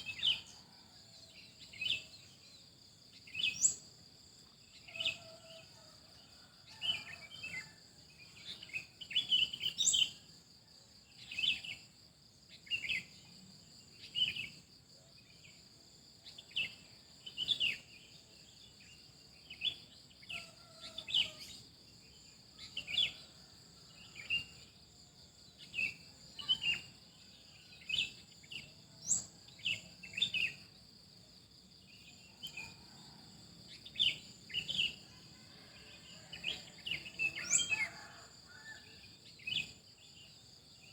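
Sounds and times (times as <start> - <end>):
insects trilling: 0.0 - 40.9
songbirds chirping: 0.0 - 40.9.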